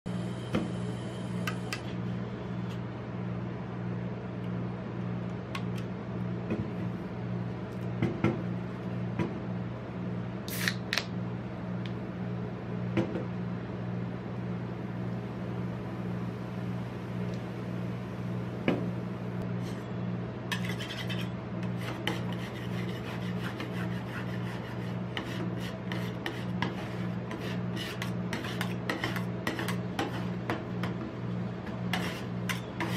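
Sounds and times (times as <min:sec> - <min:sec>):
refrigeration unit humming: 0:00.1 - 0:32.9.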